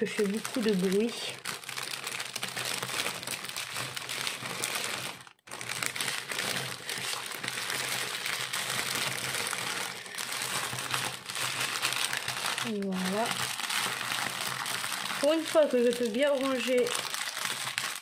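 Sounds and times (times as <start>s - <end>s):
plastic sachets crinkling: 0.0s - 18.0s.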